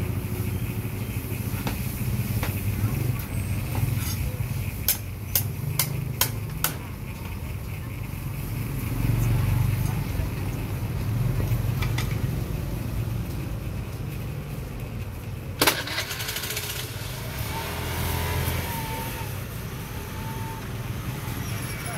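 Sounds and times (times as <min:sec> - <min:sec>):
street traffic hum: 0:00.0 - 0:21.9.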